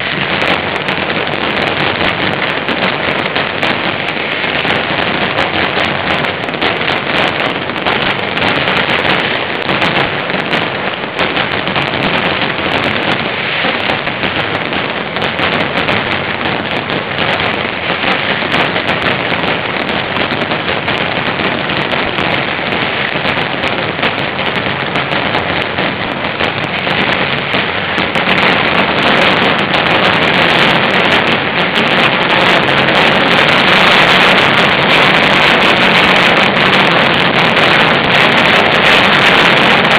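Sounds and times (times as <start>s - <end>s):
firecracker barrage crackling: 0.0s - 39.9s.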